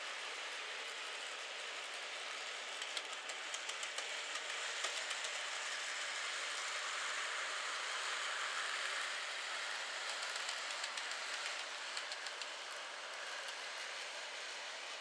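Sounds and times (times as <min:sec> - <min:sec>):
model train motor hiss: 0:00.0 - 0:15.0.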